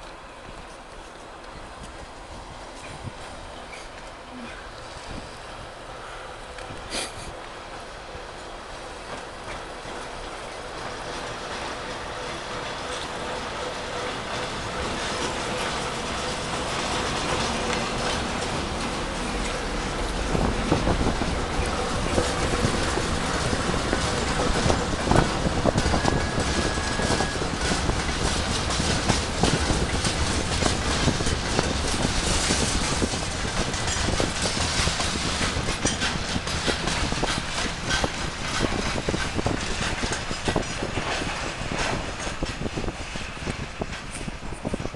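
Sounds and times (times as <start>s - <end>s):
train wheels clicking over rail joints: 0.0s - 44.9s.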